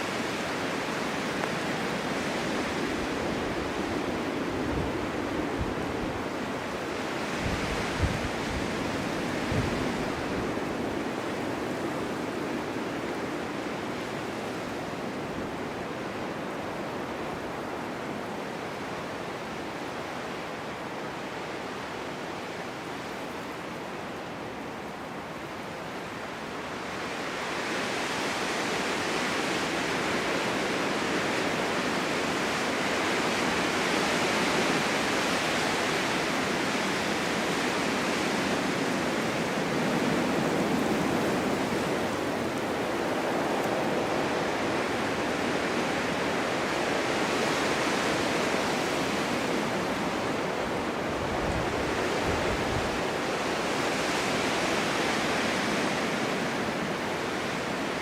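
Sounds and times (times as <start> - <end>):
wind blowing: 0.0 - 17.9, 25.4 - 58.0.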